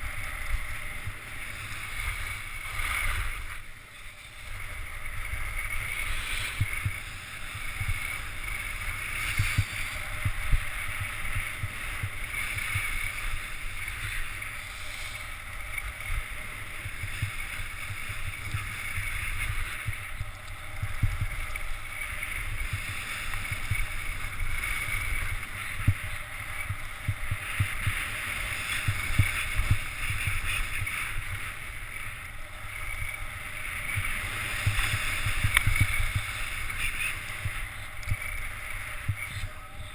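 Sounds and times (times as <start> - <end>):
skis sliding on snow: 0.0 - 39.9
wind buffeting microphone: 0.0 - 39.9.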